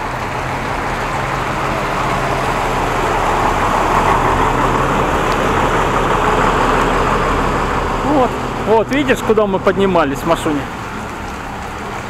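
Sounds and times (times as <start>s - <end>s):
diesel coach engine idling: 0.0s - 11.1s
road traffic: 0.0s - 12.0s.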